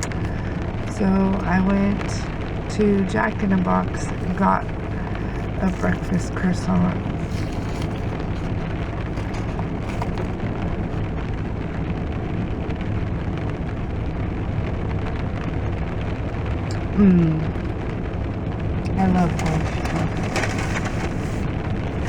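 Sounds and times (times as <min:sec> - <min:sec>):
heavy rain on a car: 0:00.0 - 0:22.0
low steady hum: 0:00.0 - 0:22.0.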